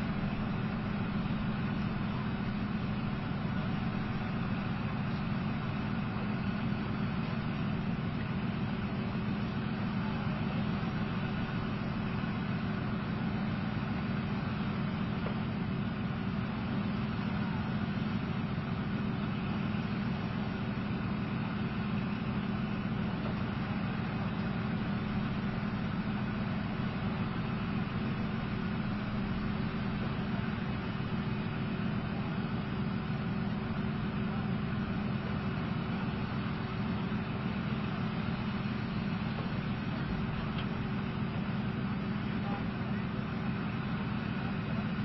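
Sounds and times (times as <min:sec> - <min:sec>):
tank diesel engines idling: 0:00.0 - 0:45.0.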